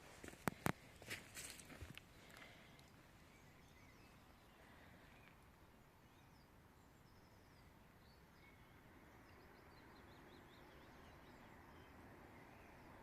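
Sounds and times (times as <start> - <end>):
faint birds chirping: 0.0 - 13.0
low steady outdoor hiss: 0.0 - 13.0.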